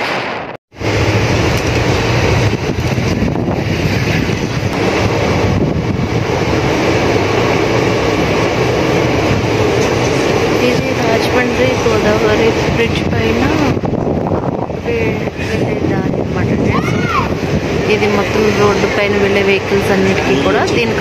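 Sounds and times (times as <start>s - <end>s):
wind on microphone: 0.0s - 21.0s
train wheels rumbling on track: 0.7s - 21.0s.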